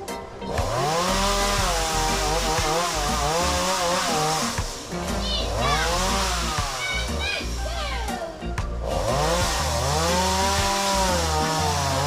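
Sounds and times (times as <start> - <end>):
chainsaw cutting wood: 0.5 - 7.6, 8.6 - 12.0.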